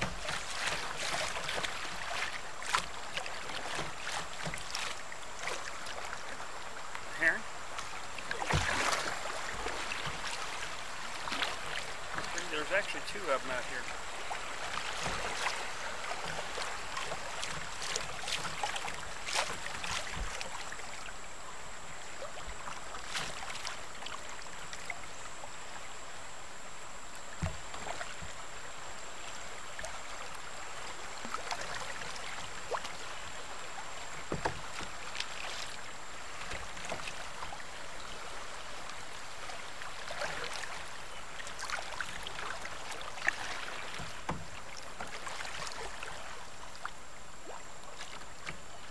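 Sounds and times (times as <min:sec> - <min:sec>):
splashes and knocks on kayak: 0:00.0 - 0:21.1, 0:22.2 - 0:25.1, 0:27.1 - 0:28.6, 0:30.9 - 0:48.9
river water rushing: 0:00.0 - 0:48.9
faint high whine: 0:01.2 - 0:48.9.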